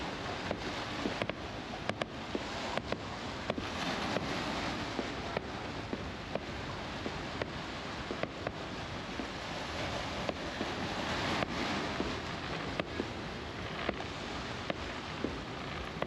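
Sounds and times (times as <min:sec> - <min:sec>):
fireworks popping and cracking: 0:00.0 - 0:16.0.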